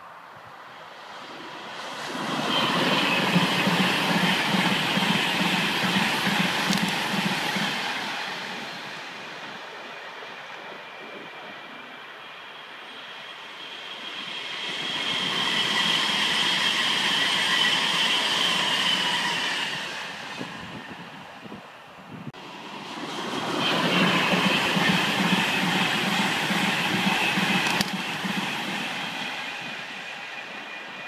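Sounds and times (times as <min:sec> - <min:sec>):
electric train high whine: 0:00.0 - 0:31.0
train wheels rumbling on rails: 0:01.0 - 0:21.4, 0:22.3 - 0:31.0.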